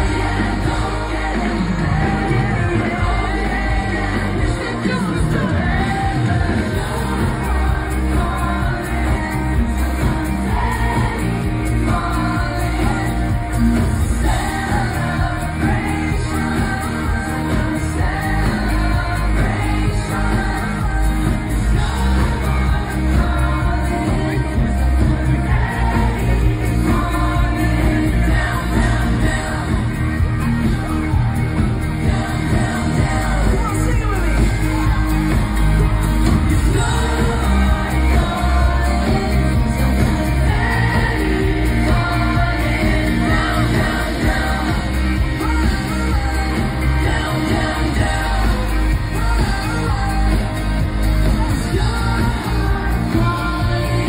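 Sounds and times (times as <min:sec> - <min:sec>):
live pop band playing and singing: 0:00.0 - 0:54.0.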